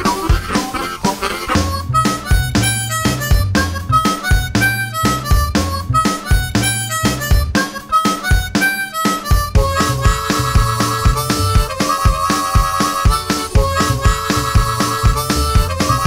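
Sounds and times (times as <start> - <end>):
music with steady beat and bass: 0.0 - 16.0.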